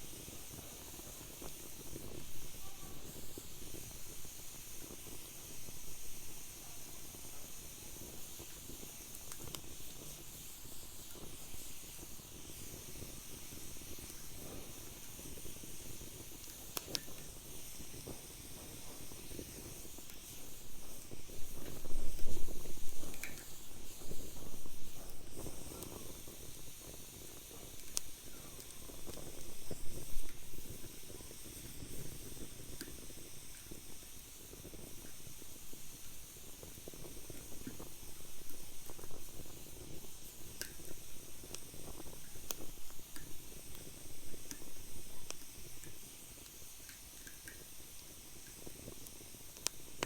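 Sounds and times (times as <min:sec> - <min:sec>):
wood fire hissing and crackling: 0:00.0 - 0:50.0.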